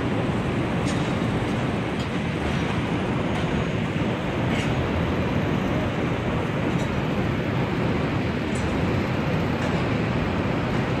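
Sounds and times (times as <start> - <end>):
distant city traffic rumble: 0.0 - 11.0.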